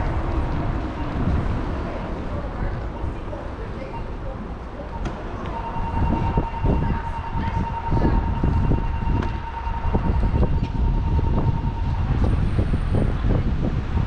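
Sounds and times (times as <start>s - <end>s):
steady high tone: 0.0s - 13.3s
wind buffeting and rumble: 0.0s - 14.0s.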